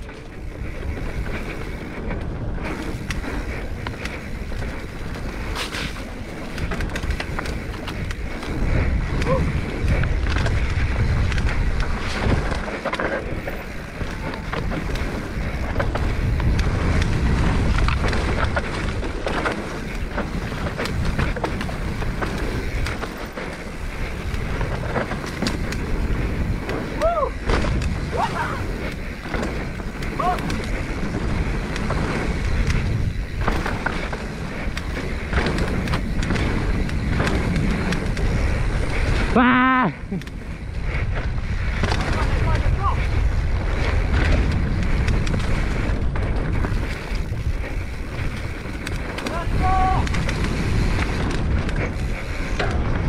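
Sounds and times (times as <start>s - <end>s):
bike chain and frame rattling: 0.0s - 53.0s
rumbling tyre noise: 0.0s - 53.0s
wind rushing over microphone: 0.0s - 53.0s.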